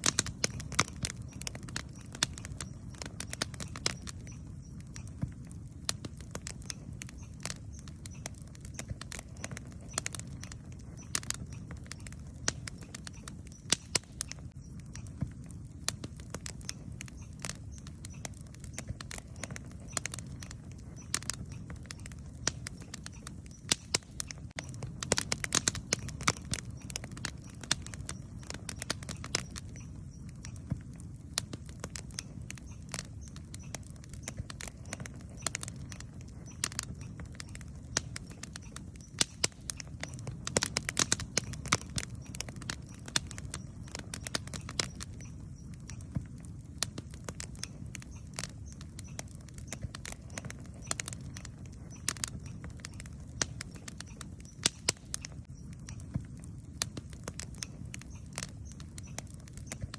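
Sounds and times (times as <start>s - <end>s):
campfire flames rumbling: 0.0s - 59.9s
fire crackling and popping: 0.0s - 59.9s.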